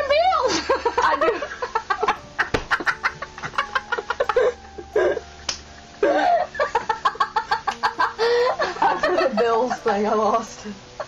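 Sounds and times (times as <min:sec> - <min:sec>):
girl laughing hard: 0:00.3 - 0:10.1.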